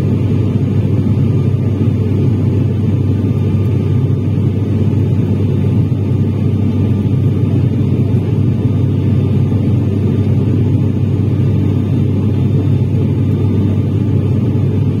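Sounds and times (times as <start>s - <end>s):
turboprop cabin drone: 0.0s - 15.0s.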